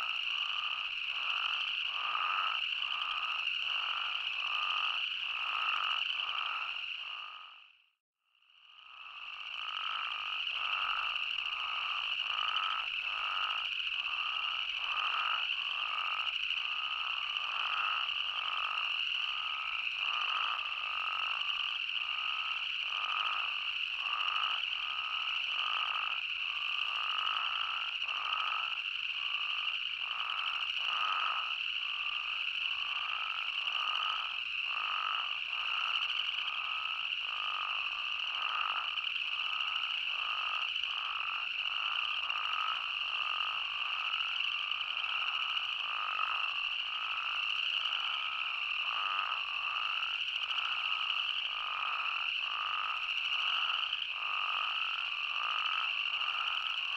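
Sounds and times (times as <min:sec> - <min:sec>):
toads calling: 0:00.0 - 0:07.6, 0:09.1 - 0:56.9.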